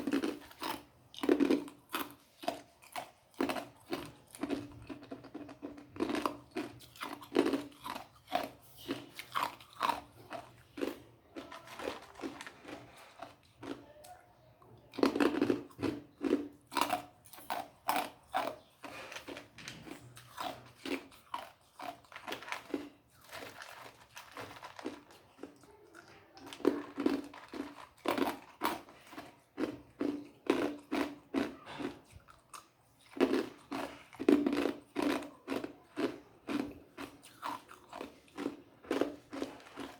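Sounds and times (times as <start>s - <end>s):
ice crunching between teeth: 0.0s - 13.8s, 15.0s - 39.9s
quiet chewing: 0.0s - 39.9s.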